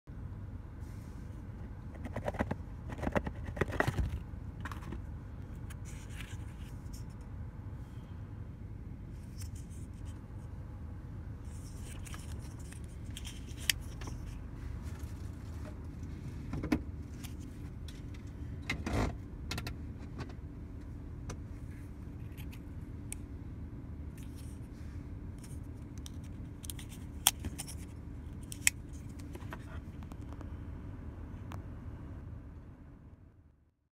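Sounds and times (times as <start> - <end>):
low car cabin rumble: 0.1 - 7.8, 8.6 - 33.0.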